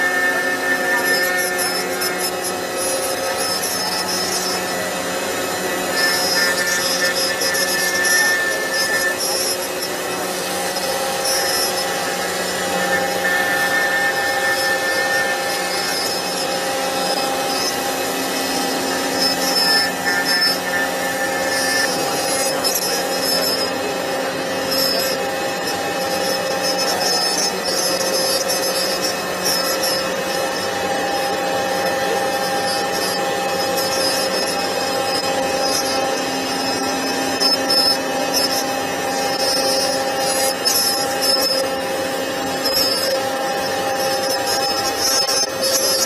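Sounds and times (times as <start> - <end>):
router spindle whine: 0.0 - 46.0.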